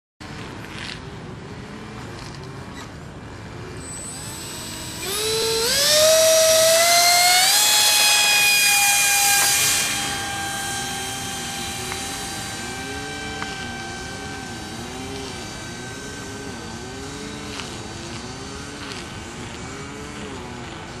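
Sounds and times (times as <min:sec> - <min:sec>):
model plane electric motor whine: 0:02.8 - 0:21.0.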